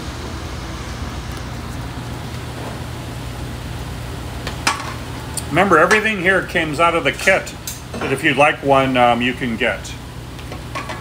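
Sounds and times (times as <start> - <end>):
ventilation rushing with low hum: 0.0 - 11.0.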